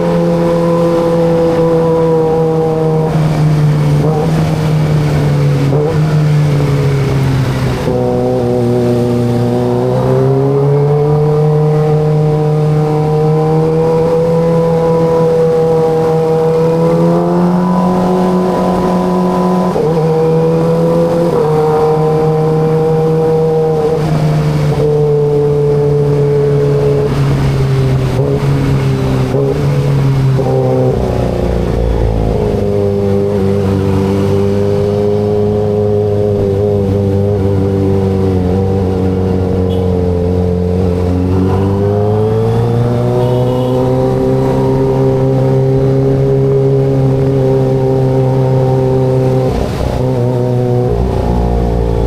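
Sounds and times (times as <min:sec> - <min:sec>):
motorcycle engine cruising: 0:00.0 - 0:52.0.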